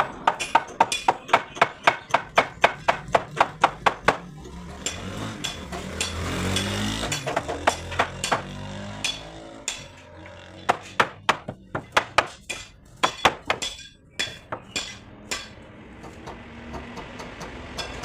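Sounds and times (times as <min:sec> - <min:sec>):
hammer striking wood: 0:00.0 - 0:10.0, 0:10.6 - 0:18.0.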